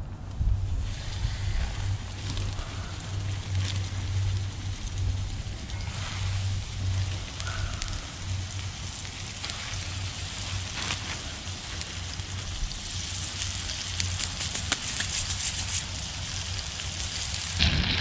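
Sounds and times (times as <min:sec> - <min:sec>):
meat sizzling in hot oil: 0:00.9 - 0:18.0.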